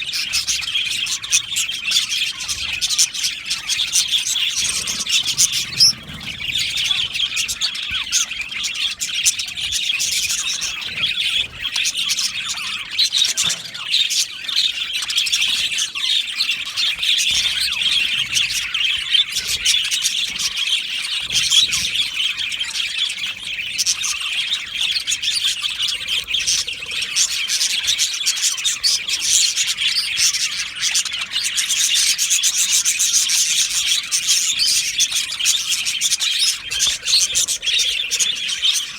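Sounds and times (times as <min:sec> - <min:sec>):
flock of budgerigars chattering: 0:00.0 - 0:38.9.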